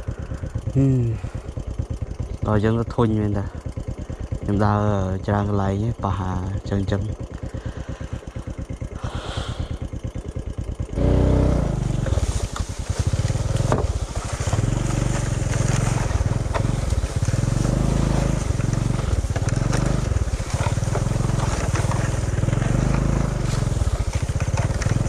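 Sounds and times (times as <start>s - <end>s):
small motorcycle engine revving: 0.0s - 25.0s.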